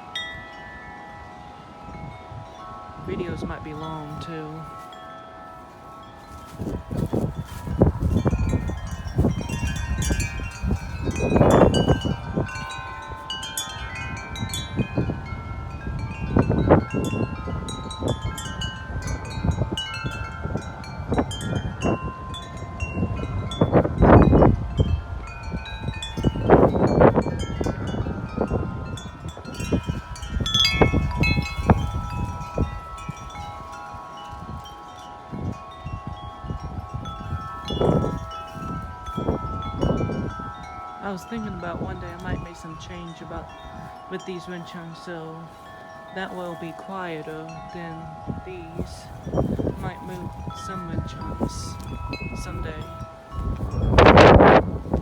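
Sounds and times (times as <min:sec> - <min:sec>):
tubular wind chimes ringing: 0:00.0 - 0:55.0
wind buffeting microphone: 0:00.0 - 0:55.0.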